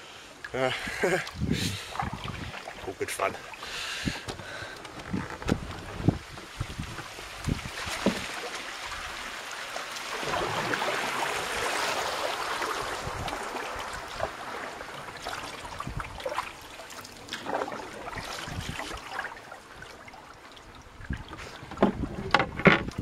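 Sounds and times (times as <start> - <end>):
river water gurgling: 0.1 - 4.8, 5.7 - 22.3
knocks and splashes: 1.2 - 20.4, 21.0 - 23.0.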